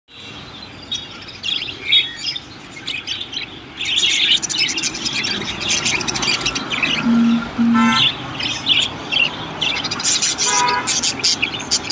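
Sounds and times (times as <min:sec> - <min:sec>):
budgerigars chirping and chattering: 0:00.2 - 0:11.9.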